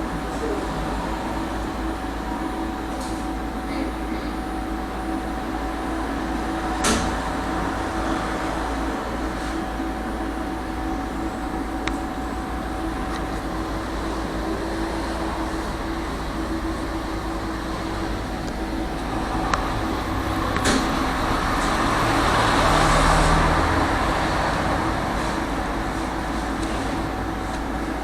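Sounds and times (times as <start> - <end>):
motor hum: 4.2 - 28.0
tram wheels rumbling on rail: 5.4 - 28.0.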